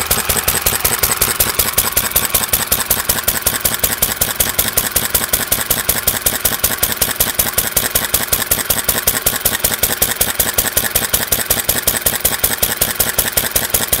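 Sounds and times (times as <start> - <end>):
stationary gas engine running: 0.0 - 14.0.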